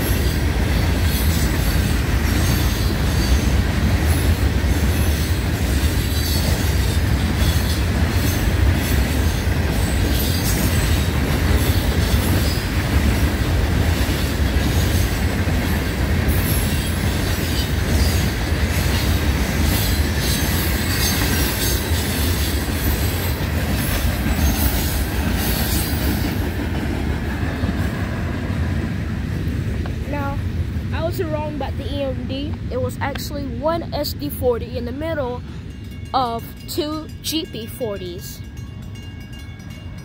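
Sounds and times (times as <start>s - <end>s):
freight cars rolling on rails: 0.0s - 40.0s.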